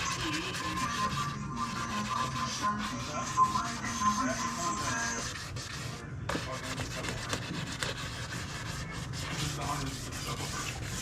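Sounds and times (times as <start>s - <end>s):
sandpaper rubbing on plastic: 0.0s - 11.0s.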